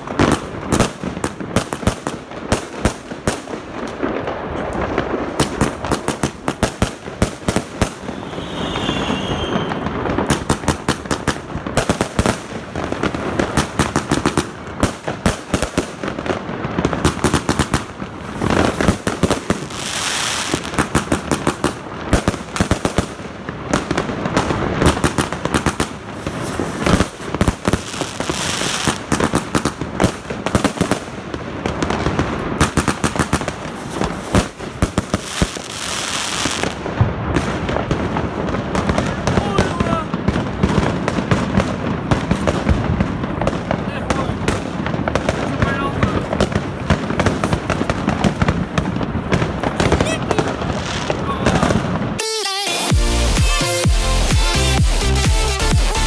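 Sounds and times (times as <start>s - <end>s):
fireworks launching and bursting: 0.0s - 56.0s.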